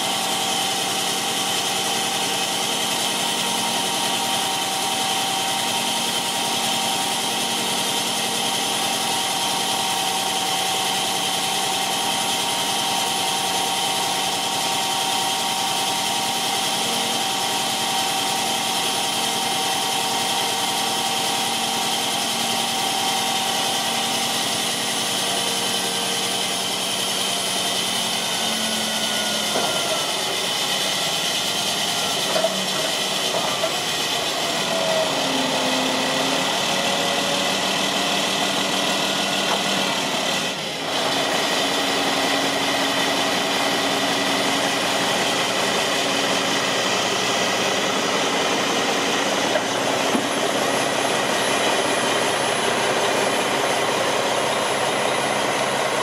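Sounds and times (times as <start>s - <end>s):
hydraulic pump whine: 0.0s - 56.0s
truck engine running: 0.0s - 56.0s.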